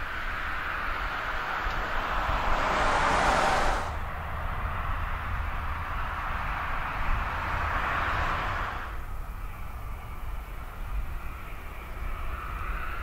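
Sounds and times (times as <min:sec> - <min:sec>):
car tyre and engine noise: 0:00.0 - 0:13.0
low outdoor rumble: 0:00.0 - 0:13.0.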